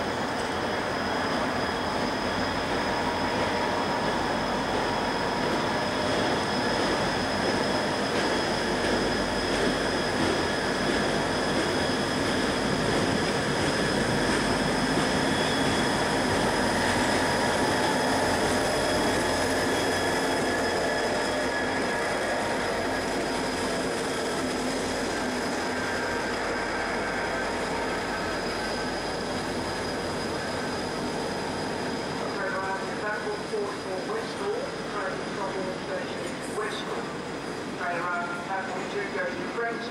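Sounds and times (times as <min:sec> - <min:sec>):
freight train rumbling past: 0:00.0 - 0:39.9
high-pitched whine: 0:00.0 - 0:39.9.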